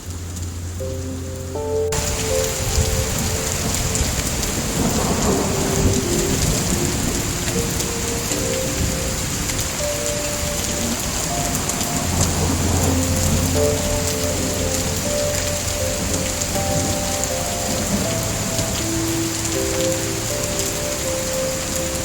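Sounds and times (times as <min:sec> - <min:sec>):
heavy rain: 0:00.0 - 0:22.0
soft music with held notes: 0:00.0 - 0:22.0
thunder rumble: 0:00.0 - 0:22.0.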